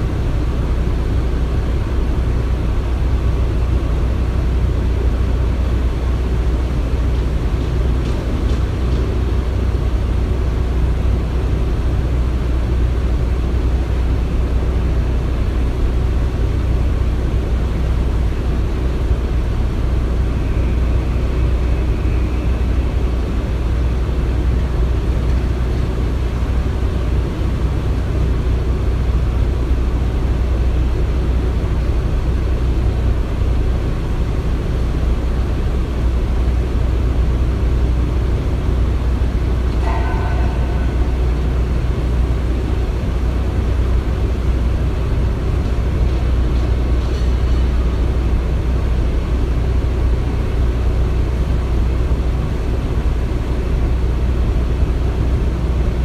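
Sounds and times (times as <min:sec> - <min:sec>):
construction machinery engine rumble: 0:00.0 - 0:56.0.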